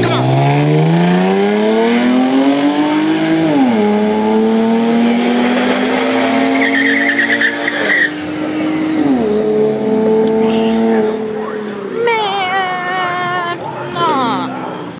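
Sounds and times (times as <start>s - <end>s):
car engine accelerating: 0.0s - 12.2s.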